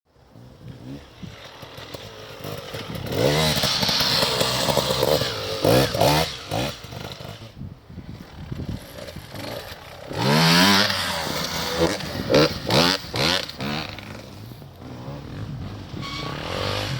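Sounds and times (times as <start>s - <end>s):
motorcycle engine revving: 0.2s - 16.9s.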